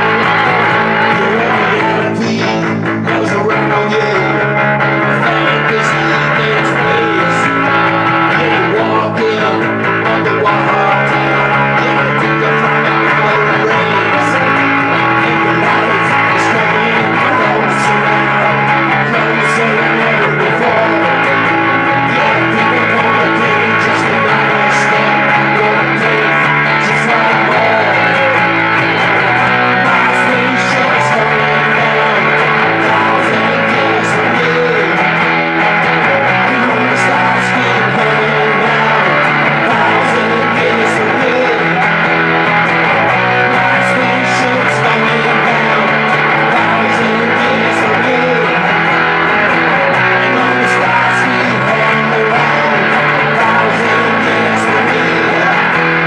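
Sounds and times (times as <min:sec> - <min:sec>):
harmony voices: 0:00.0 - 0:56.0
man singing into microphone: 0:00.0 - 0:56.0
strummed acoustic guitars: 0:00.0 - 0:56.0.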